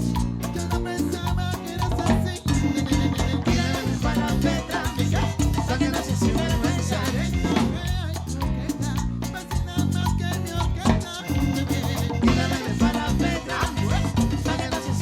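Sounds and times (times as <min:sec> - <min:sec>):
live salsa band playing: 0:00.0 - 0:15.0.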